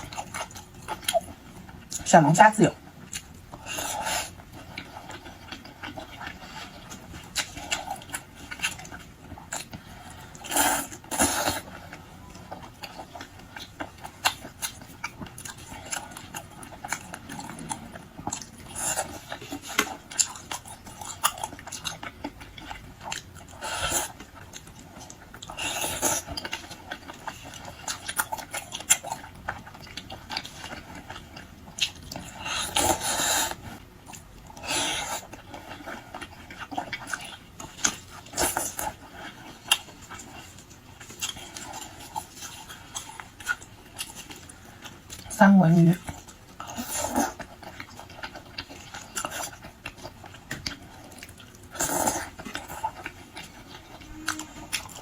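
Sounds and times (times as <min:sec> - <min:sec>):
person chewing and smacking: 0:00.0 - 0:02.1, 0:02.8 - 0:55.0.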